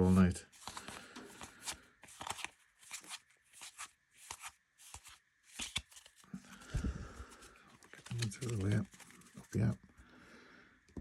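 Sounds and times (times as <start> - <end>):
cards slapping and rustling: 0.5 - 9.7.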